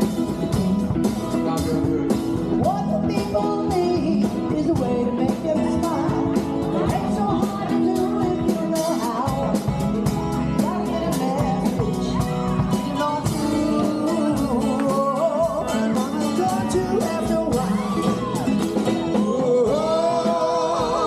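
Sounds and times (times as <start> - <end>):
drums: 0.0 - 21.0
keyboard: 0.0 - 21.0
person singing: 1.5 - 9.8, 10.6 - 21.0.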